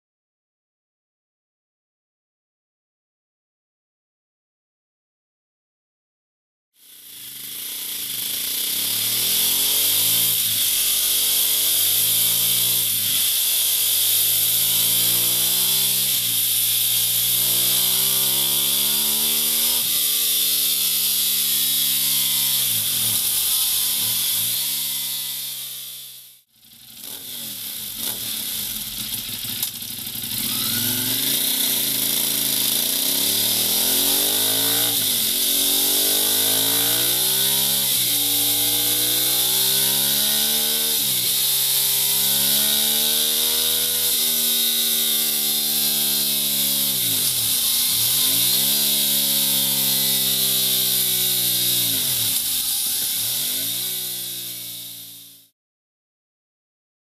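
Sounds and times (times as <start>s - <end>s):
motorcycle engine revving: 6.8s - 55.5s.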